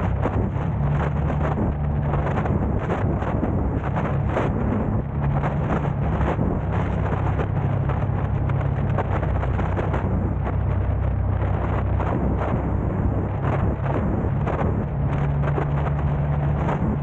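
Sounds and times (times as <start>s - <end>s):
car engine and tyre rumble: 0.0s - 17.0s
wind buffeting microphone: 0.0s - 17.0s.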